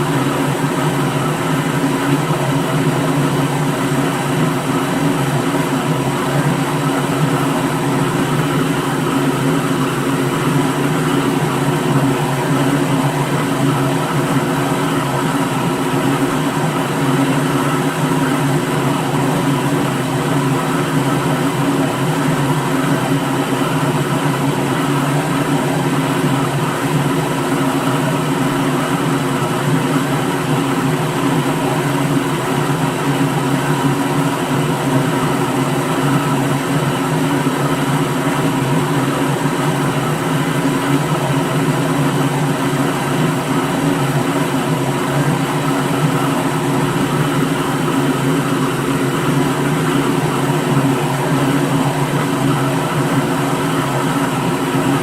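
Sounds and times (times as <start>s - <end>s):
electric blender whirring: 0.0s - 55.0s.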